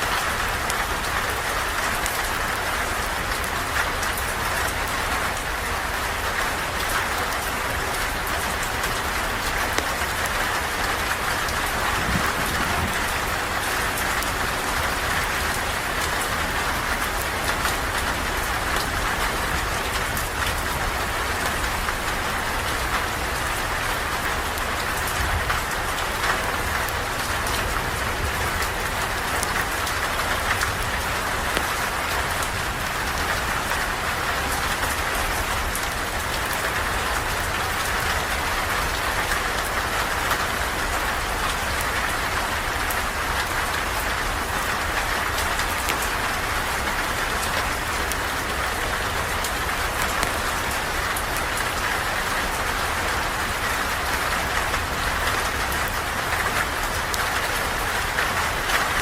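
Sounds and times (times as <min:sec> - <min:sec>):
steady rain falling: 0:00.0 - 0:59.0
raindrops ticking: 0:00.1 - 0:59.0.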